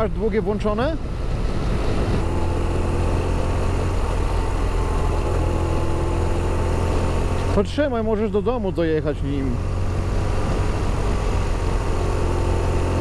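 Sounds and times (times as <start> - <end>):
motorcycle engine running: 0.0 - 13.0
wind and road noise: 0.0 - 13.0
low hum: 0.1 - 13.0.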